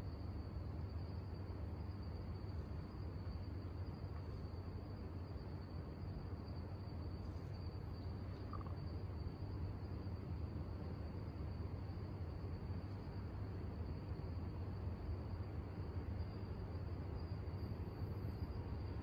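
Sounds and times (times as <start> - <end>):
crickets trilling: 0.0 - 19.0
low steady hum: 0.0 - 19.0.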